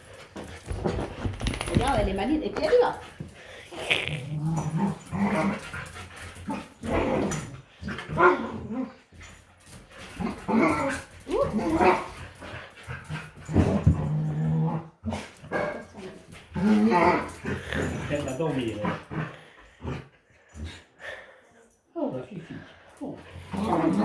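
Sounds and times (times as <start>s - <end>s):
dogs growling in play: 0.0s - 21.2s, 22.5s - 24.0s.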